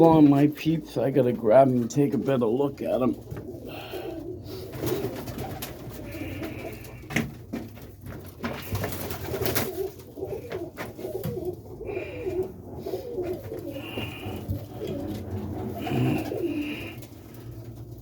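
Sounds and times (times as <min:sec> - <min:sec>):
pigeons cooing: 0:01.7 - 0:18.0.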